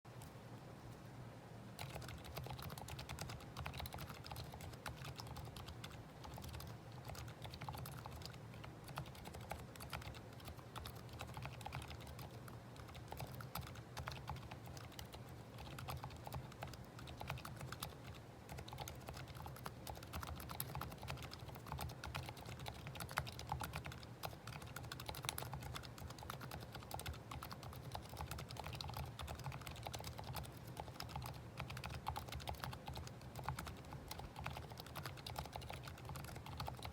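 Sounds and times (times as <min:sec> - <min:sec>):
typing on keyboard: 0:01.8 - 0:36.9.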